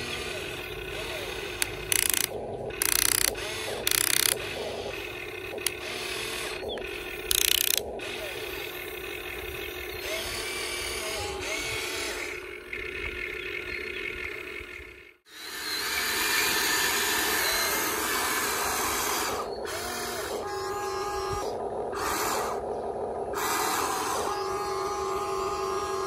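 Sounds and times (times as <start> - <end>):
electric motors and gearboxes whining: 0.0 - 26.0.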